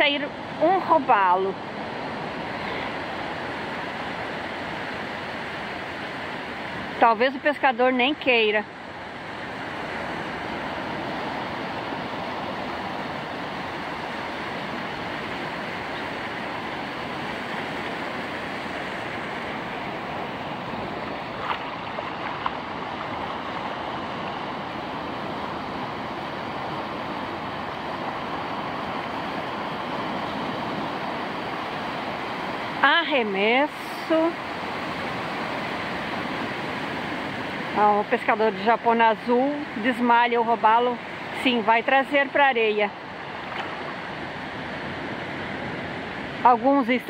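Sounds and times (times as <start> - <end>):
ocean surf breaking on sand: 0.0 - 47.0.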